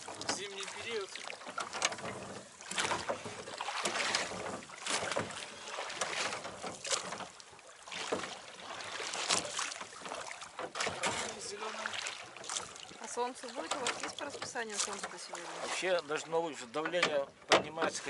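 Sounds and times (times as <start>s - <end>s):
oars splashing in water: 0.0s - 18.0s.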